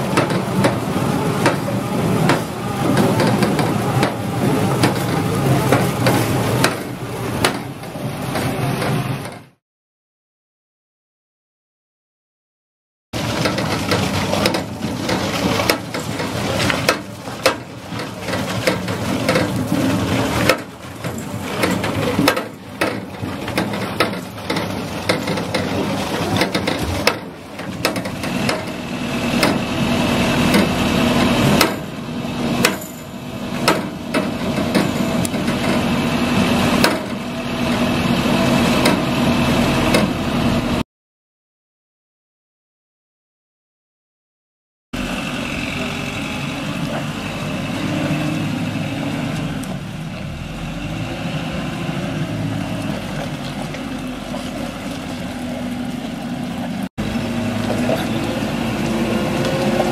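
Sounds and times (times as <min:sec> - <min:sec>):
loader engine running: 0:00.0 - 0:09.6, 0:13.2 - 0:40.8, 0:45.0 - 0:59.9.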